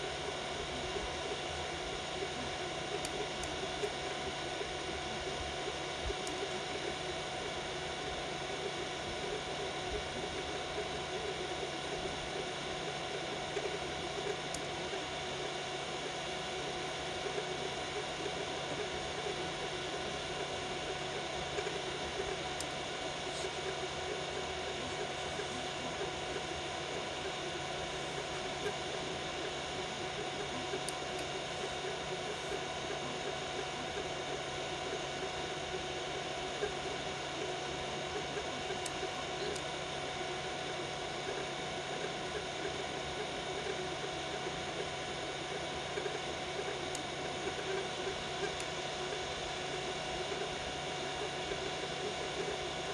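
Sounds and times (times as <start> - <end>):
cooling fans whirring: 0.0 - 52.9
three-d printer running: 0.0 - 52.9.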